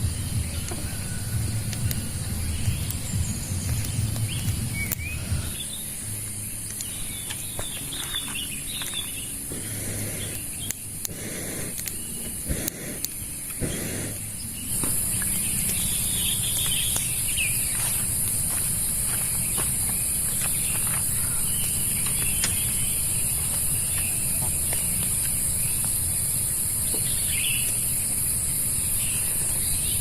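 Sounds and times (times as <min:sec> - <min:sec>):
birds chirping: 0:00.0 - 0:30.0
high-pitched insect drone: 0:00.0 - 0:30.0.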